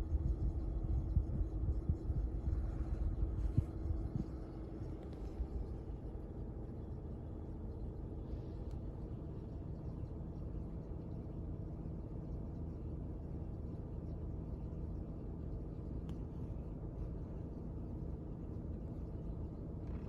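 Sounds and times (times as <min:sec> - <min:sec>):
faint steady tone: 0:00.0 - 0:20.0.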